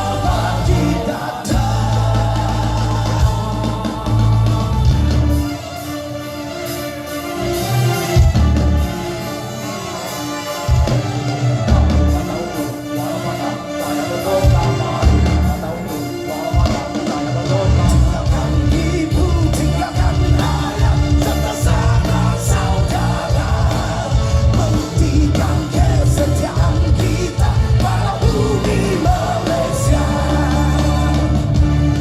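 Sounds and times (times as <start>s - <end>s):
bass guitar: 0.0s - 5.6s, 7.4s - 9.1s, 10.7s - 13.2s, 14.4s - 15.9s, 16.5s - 32.0s
rock song with singing: 0.0s - 32.0s.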